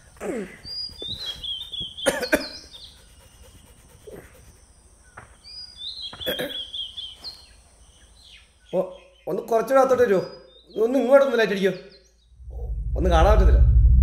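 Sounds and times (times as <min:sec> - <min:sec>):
bird chirping: 0:00.0 - 0:13.9.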